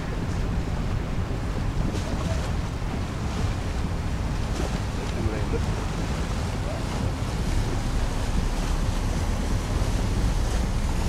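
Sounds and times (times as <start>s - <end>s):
churning water: 0.0s - 11.0s
wind buffeting microphone: 0.0s - 11.0s.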